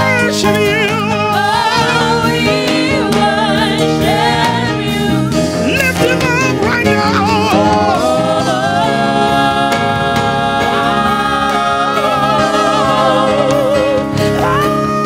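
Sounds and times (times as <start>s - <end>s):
sustained keyboard chords: 0.0s - 15.0s
voices singing with vibrato: 0.0s - 15.0s.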